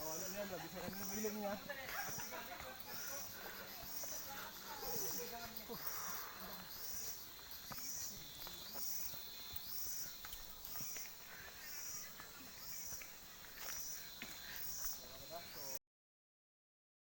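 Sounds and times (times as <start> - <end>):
insect high pulsing call: 0.0 - 15.8.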